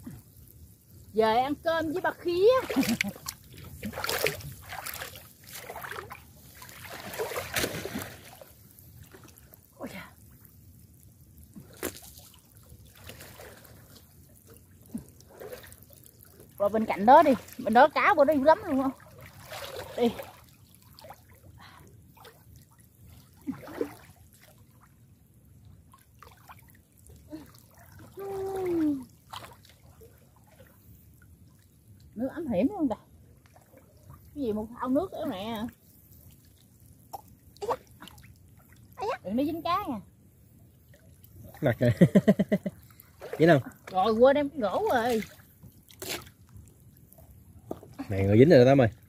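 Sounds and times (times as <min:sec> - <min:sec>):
shallow water sloshing and splashing: 0:00.0 - 0:49.0.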